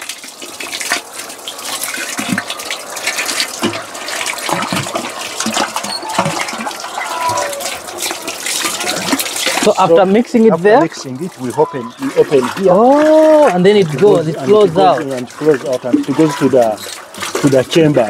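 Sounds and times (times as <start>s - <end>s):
slurry sloshing in a tank: 0.0s - 18.0s.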